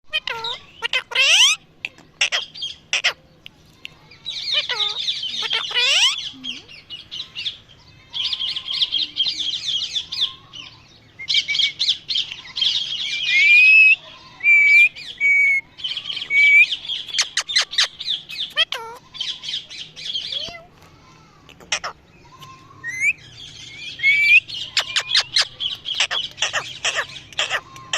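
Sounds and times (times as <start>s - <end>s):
parrot squawking and chattering: 0.1s - 3.2s, 4.3s - 27.9s.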